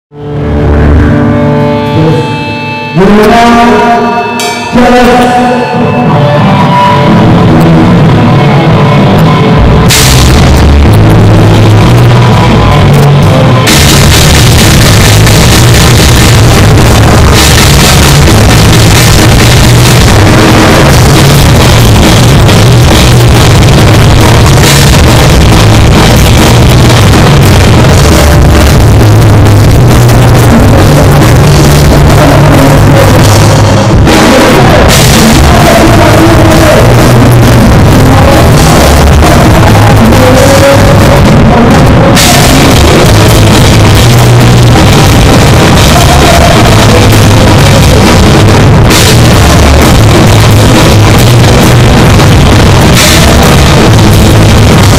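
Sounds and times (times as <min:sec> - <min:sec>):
bass guitar: 0:00.0 - 0:54.9
electric guitars: 0:00.0 - 0:54.9
drum kit: 0:03.0 - 0:54.9.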